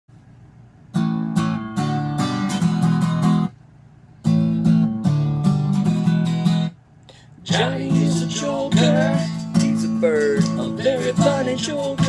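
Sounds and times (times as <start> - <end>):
acoustic guitar strumming chords: 0.9 - 3.6, 4.2 - 6.8, 7.4 - 12.0.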